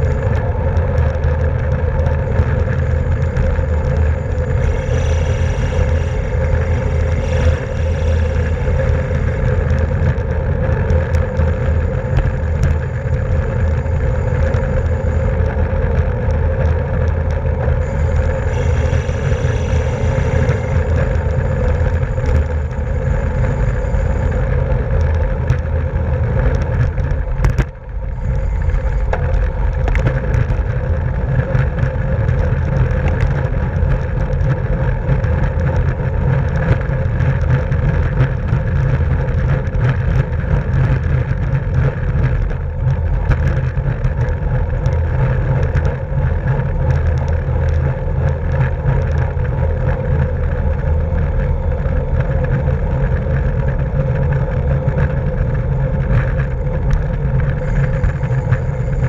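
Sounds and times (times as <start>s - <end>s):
bicycle road noise: 0.0s - 59.0s.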